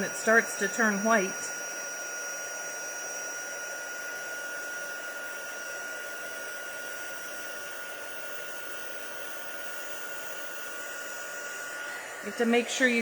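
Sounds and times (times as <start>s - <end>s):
heat tool blowing air: 0.0s - 13.0s
high motor whine: 0.0s - 13.0s.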